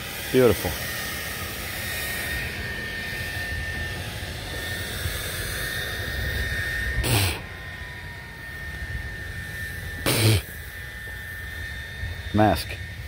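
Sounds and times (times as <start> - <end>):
electric floor sander droning: 0.0 - 13.0.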